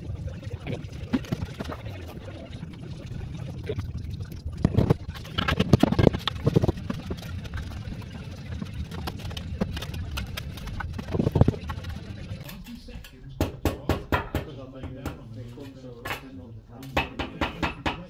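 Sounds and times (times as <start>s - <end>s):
steady low hum: 0.0s - 16.7s.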